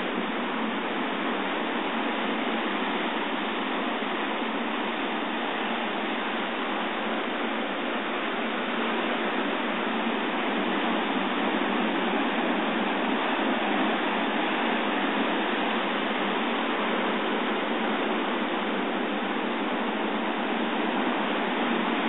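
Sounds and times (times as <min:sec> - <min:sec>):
surf washing over rocks: 0:00.0 - 0:22.0.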